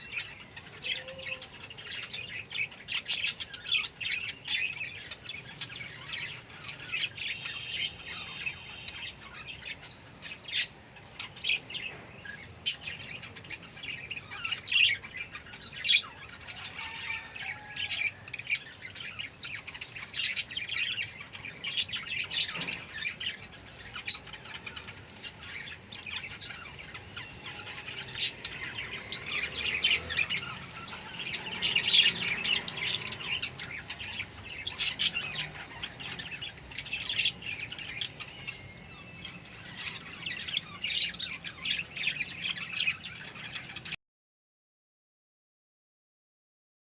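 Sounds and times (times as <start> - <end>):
budgerigars chirping and squawking: 0.0 - 44.0.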